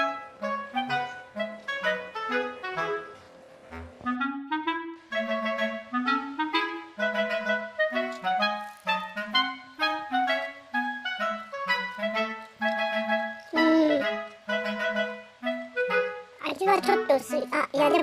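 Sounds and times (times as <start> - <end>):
woodwind notes: 0.0 - 17.4.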